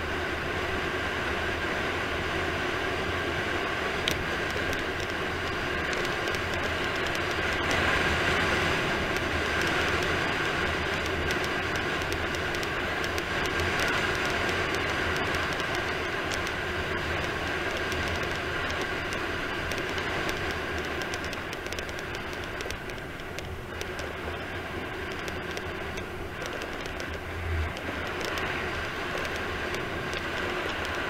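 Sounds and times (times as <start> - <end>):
constant hum: 0.0 - 31.0
wheels rolling over asphalt: 0.0 - 31.0
wind noise on microphone: 3.1 - 31.0.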